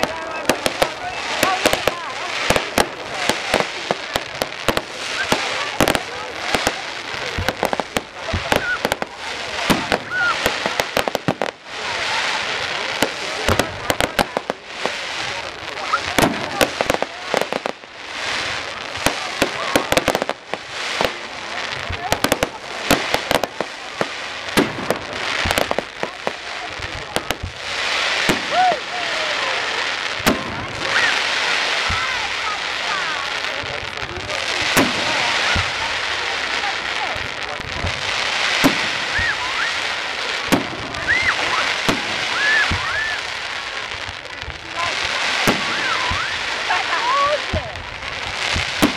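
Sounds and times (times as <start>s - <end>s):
fireworks bursting: 0.0s - 48.9s
fireworks hissing: 0.0s - 48.9s.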